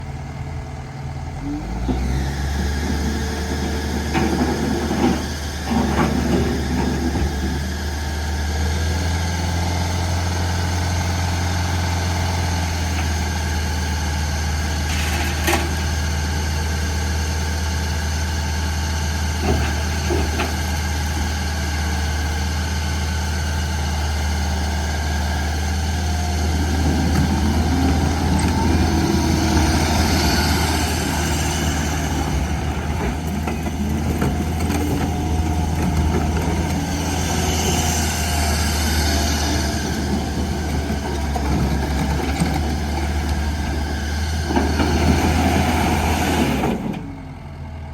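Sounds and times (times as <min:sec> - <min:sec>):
diesel engine idling: 0:00.0 - 0:14.9, 0:15.7 - 0:47.9.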